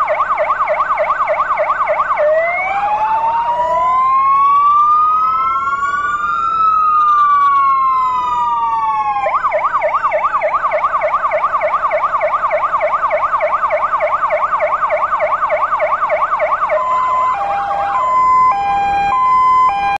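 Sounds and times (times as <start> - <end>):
electronic sirens: 0.0 - 20.0.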